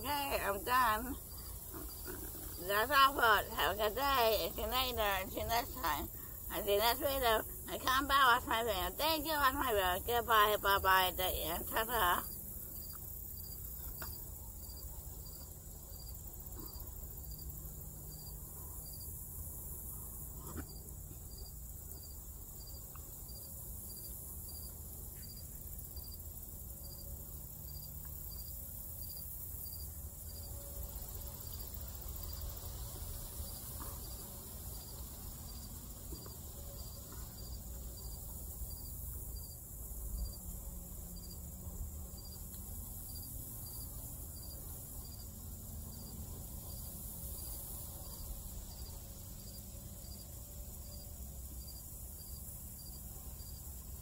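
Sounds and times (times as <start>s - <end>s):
insect chirping: 0.0s - 54.0s
steady high hiss: 0.0s - 54.0s.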